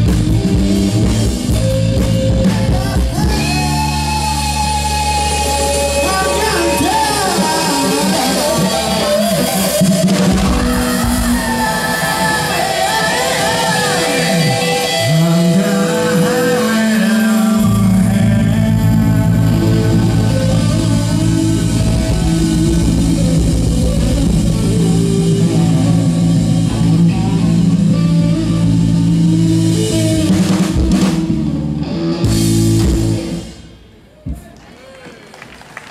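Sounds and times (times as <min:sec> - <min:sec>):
drum kit: 0:00.0 - 0:15.0, 0:15.8 - 0:34.5
electric guitar: 0:00.0 - 0:34.0
bass guitar: 0:00.0 - 0:34.3.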